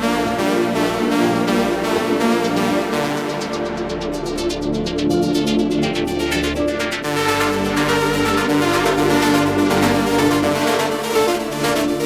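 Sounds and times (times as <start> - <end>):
electronic music with synth chords: 0.0 - 12.0.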